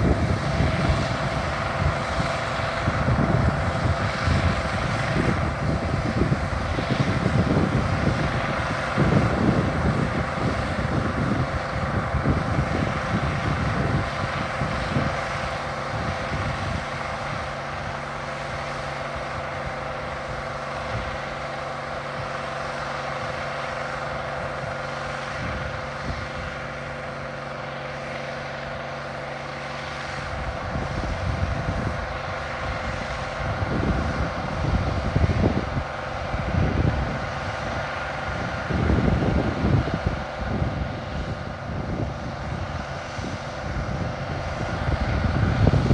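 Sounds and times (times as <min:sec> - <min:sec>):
combine harvester machinery drone: 0:00.0 - 0:45.9
wind buffeting microphone: 0:00.0 - 0:45.9.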